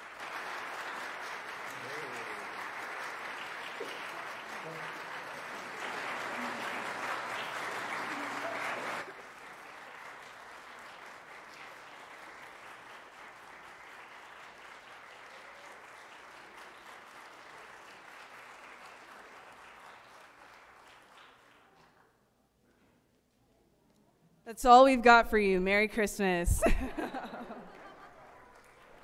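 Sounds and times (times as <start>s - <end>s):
audience applauding: 0.0s - 22.1s, 26.7s - 29.0s.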